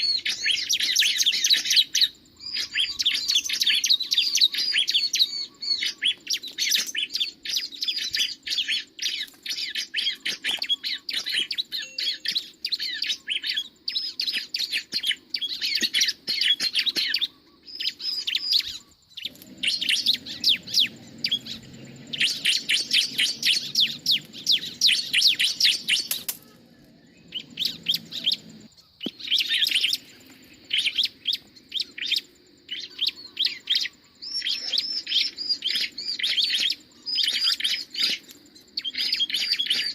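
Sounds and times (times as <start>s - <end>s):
bird song of sharp chirps: 0.0s - 39.9s.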